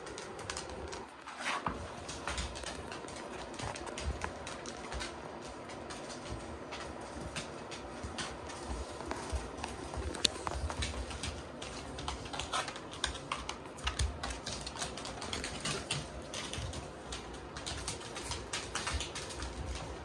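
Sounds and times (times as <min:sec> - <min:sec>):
puppy claws clicking on floor: 0:00.0 - 0:20.0.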